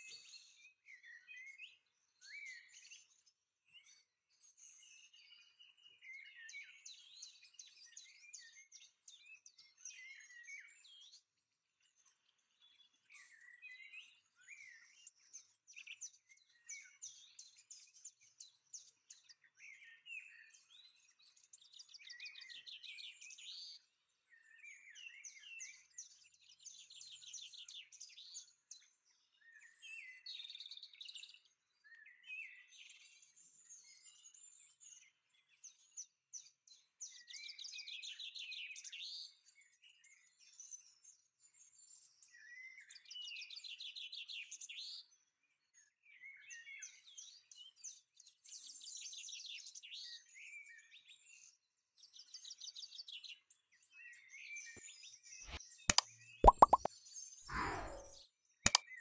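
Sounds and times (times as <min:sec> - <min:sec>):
faint songbird song: 0:00.0 - 0:55.8.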